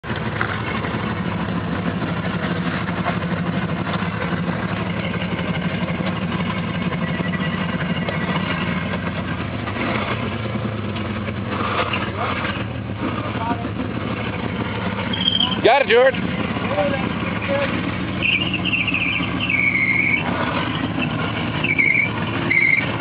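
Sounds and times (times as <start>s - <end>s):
off-road vehicle engine at low revs: 0.0s - 23.0s.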